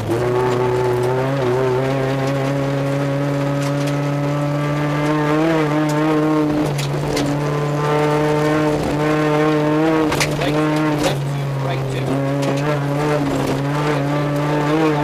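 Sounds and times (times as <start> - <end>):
car engine running hard: 0.0 - 15.0
gravel ticking under car: 0.0 - 15.0.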